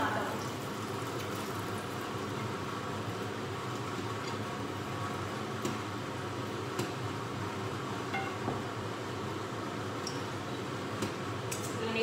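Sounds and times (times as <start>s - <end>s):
steady kitchen hum: 0.0s - 12.0s.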